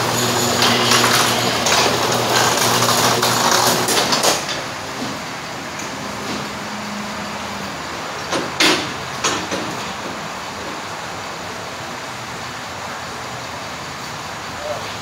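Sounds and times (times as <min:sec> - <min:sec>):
repair shop background noise: 0:00.0 - 0:15.0.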